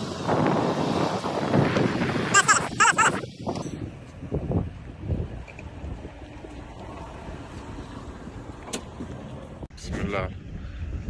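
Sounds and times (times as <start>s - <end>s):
wind noise on microphone: 0.0s - 8.3s, 9.7s - 11.0s.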